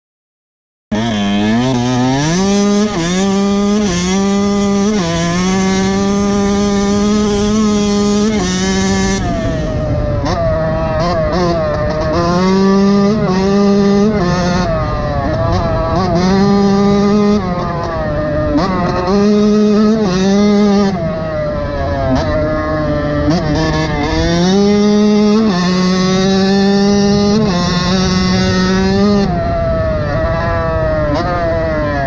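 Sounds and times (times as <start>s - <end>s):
two-stroke motorcycle engine revving: 0.9s - 32.0s.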